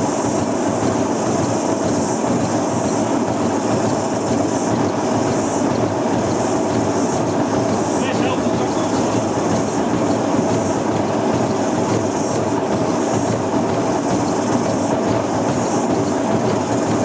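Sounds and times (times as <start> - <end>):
washing machine rattling and rumbling: 0.0 - 17.0.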